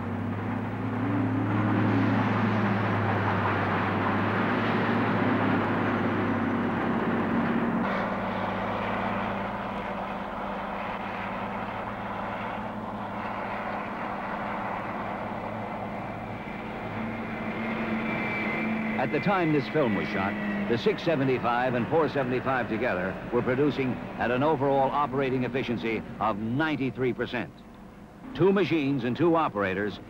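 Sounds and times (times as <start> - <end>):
wheel loader diesel engine drone: 0.0 - 30.0.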